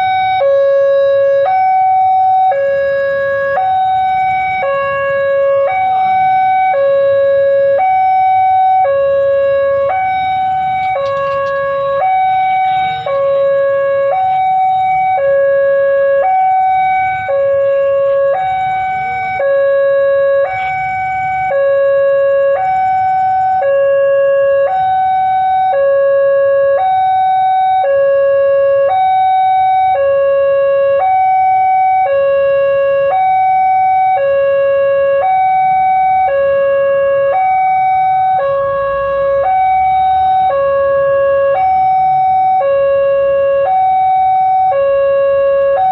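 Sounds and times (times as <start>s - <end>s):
two-tone warning siren: 0.0s - 45.9s.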